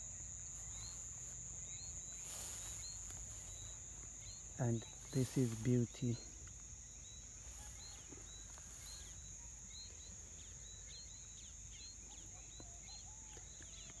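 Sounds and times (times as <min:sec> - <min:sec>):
high-pitched insect drone: 0:00.0 - 0:13.9
bird chirps: 0:00.0 - 0:14.0.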